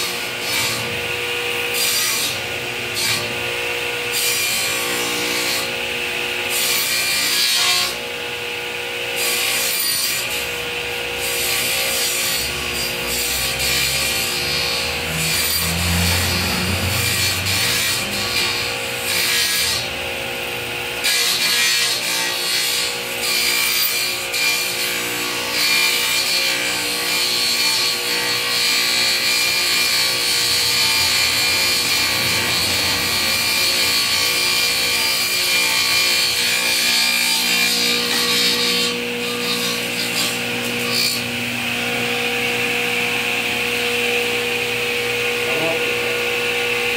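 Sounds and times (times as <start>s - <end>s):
panel saw cutting wood: 0.0s - 46.9s.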